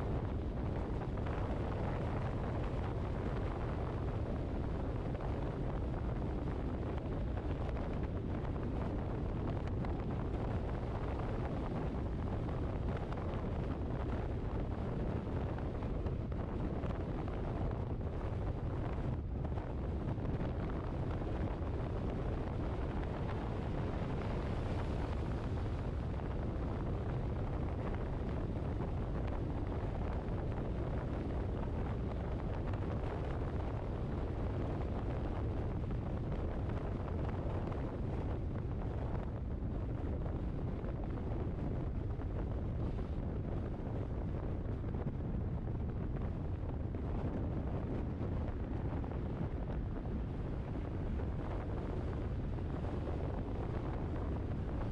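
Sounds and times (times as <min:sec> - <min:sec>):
car road and wind noise: 0:00.0 - 0:54.9.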